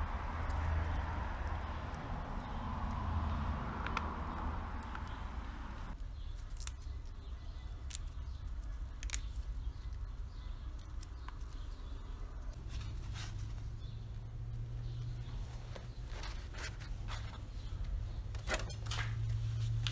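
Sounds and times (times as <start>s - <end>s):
low outdoor rumble: 0.0s - 19.9s.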